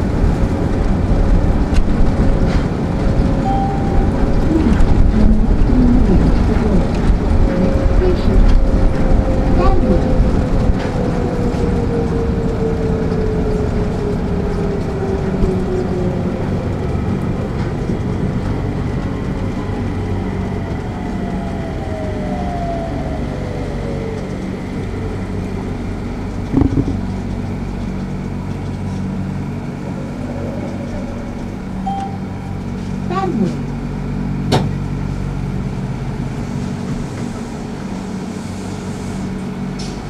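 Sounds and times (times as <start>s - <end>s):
tyre rumble and low hum: 0.0s - 40.0s.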